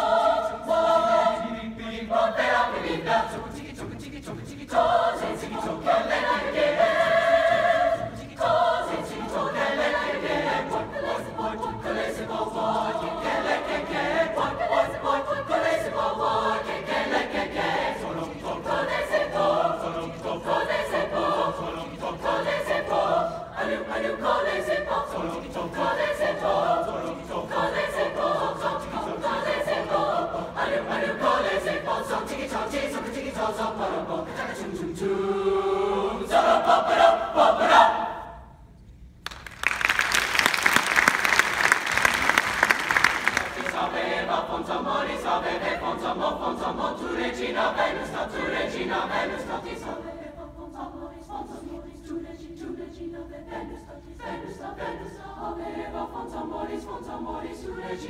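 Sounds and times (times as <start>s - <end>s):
mixed choir singing: 0.0s - 38.6s, 41.2s - 58.0s.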